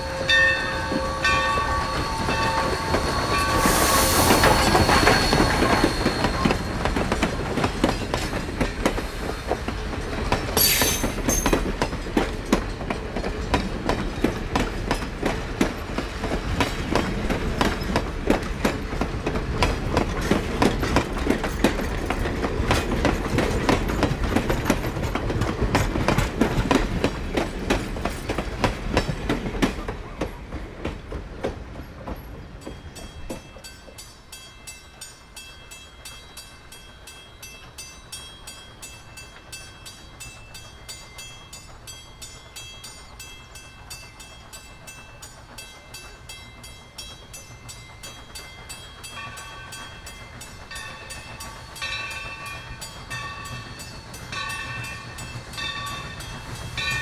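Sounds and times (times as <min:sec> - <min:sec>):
wheels clicking over rail joints: 0:00.3 - 0:57.0.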